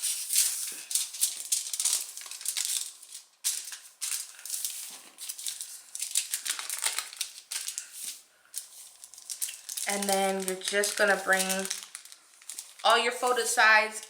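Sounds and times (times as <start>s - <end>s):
aluminium foil crinkling: 0.0s - 14.0s.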